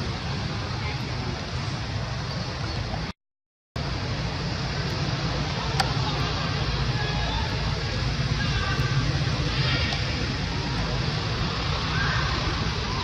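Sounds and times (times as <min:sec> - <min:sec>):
outdoor rumble and hiss: 0:00.0 - 0:03.2, 0:03.8 - 0:13.0.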